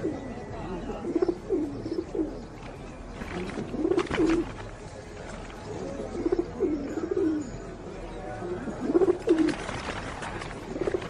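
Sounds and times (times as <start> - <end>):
flurry of sharp noise: 0.0 - 11.0.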